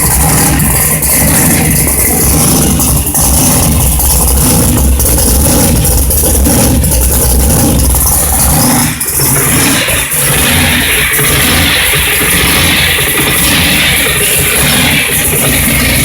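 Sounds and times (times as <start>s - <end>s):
vee eight engine rumbling: 0.0s - 16.0s.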